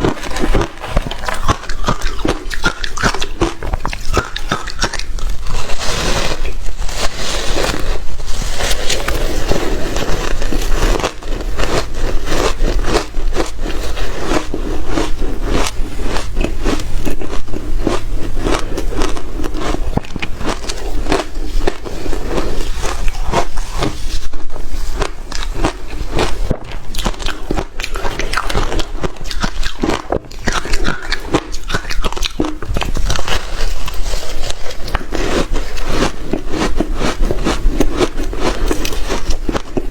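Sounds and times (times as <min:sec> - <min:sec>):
crunching hard shaved ice: 0:00.0 - 0:39.9.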